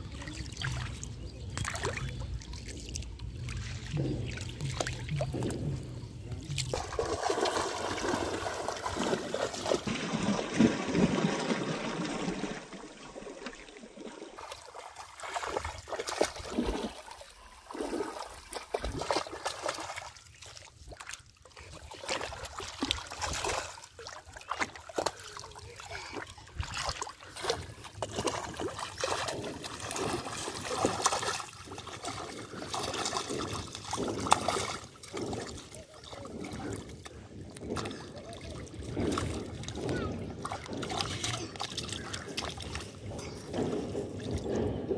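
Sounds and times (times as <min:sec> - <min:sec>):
water splashing and sloshing: 0:00.0 - 0:44.9.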